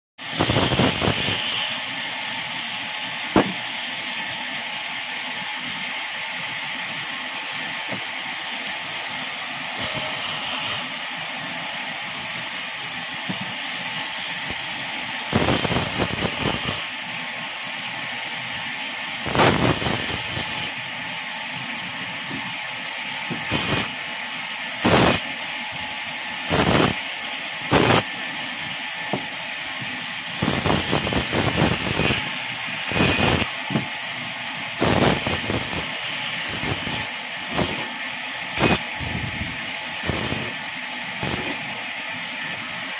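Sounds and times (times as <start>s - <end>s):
band saw cutting log: 0.2s - 42.9s.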